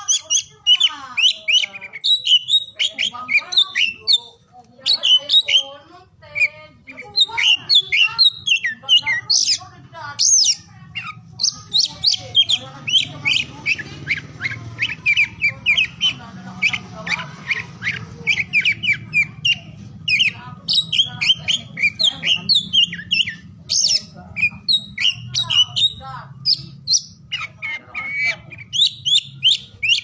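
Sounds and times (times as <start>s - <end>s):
bird singing chirps and whistles: 0.0s - 5.7s, 6.4s - 9.6s, 10.2s - 30.0s.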